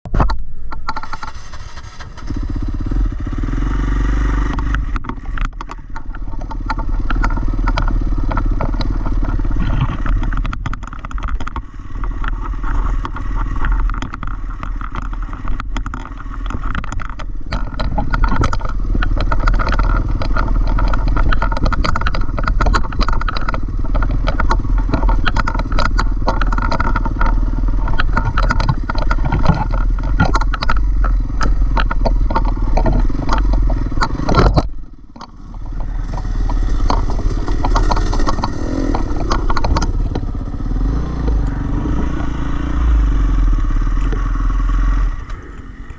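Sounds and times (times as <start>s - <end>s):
dirt bike engine running: 0.1s - 45.9s
knocks and rattles: 4.4s - 45.7s.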